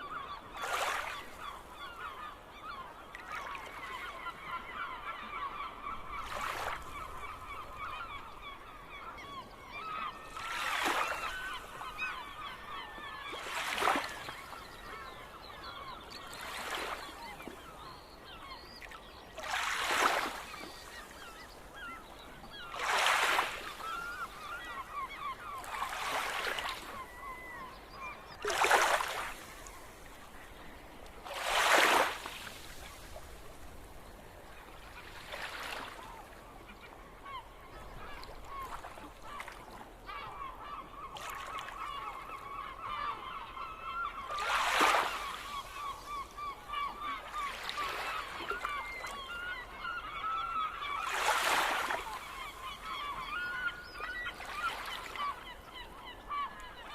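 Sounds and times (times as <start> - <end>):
gulls calling: 0.0 - 56.9.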